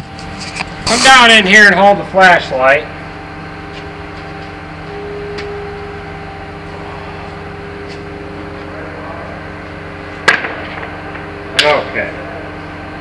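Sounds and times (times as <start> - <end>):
engine idling hum: 0.0 - 13.0
high whine: 0.0 - 13.0.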